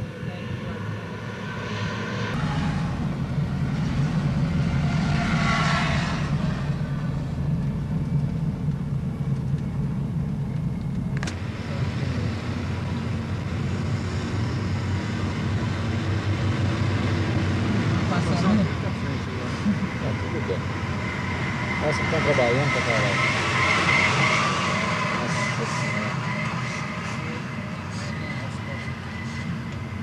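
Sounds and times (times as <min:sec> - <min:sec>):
heavy vehicle engines rumbling: 0:00.0 - 0:30.0.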